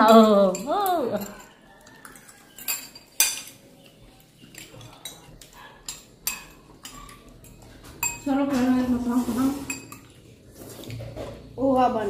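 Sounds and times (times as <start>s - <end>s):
cutlery clinking against bowls: 0.0s - 12.0s.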